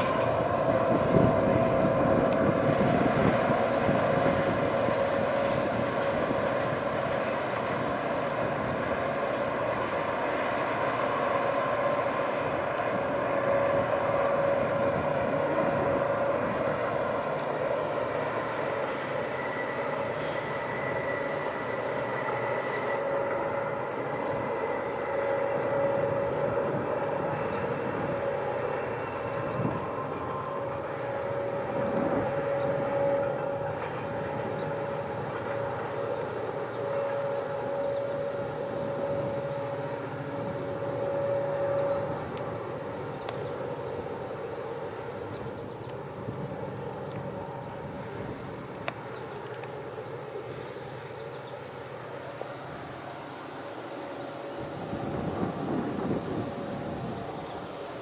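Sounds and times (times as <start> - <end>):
freight train rumble: 0.0 - 58.0
insects chirping: 0.0 - 58.0.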